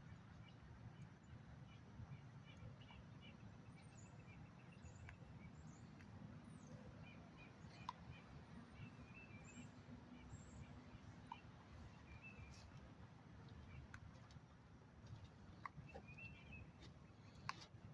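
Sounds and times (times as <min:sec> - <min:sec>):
faint birds chirping: 0:00.0 - 0:17.9.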